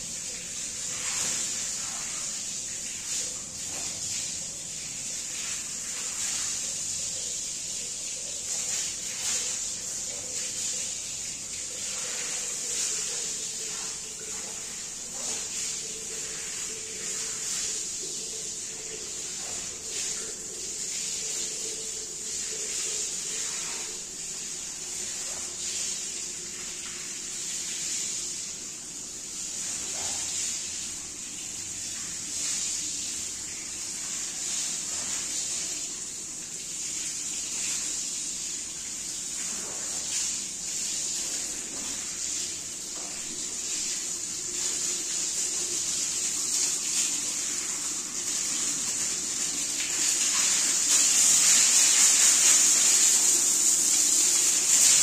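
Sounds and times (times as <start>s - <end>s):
water spraying on a rug: 0.0s - 55.0s.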